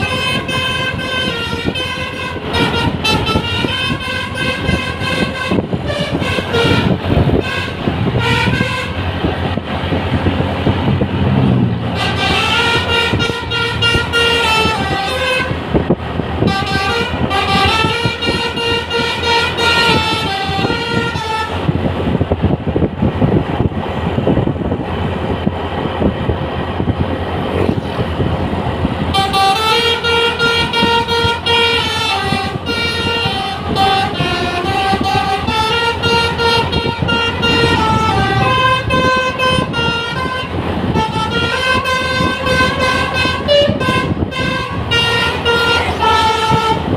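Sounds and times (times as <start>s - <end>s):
bus musical horn tune: 0.0s - 9.3s, 11.2s - 21.9s, 29.0s - 46.9s
rushing noise: 0.0s - 46.9s.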